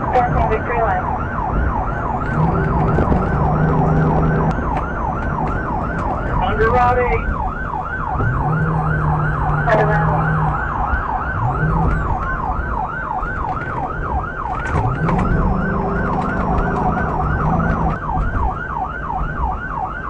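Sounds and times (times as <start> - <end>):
police siren yelping: 0.0 - 20.0
car engine accelerating: 1.4 - 19.7.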